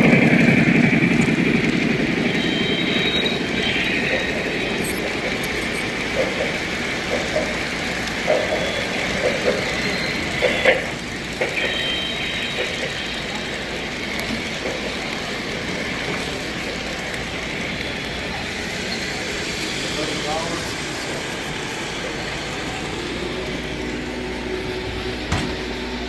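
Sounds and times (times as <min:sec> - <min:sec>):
model train running noise: 0:00.0 - 0:26.0
train wheels clicking over rail joints: 0:00.0 - 0:26.0.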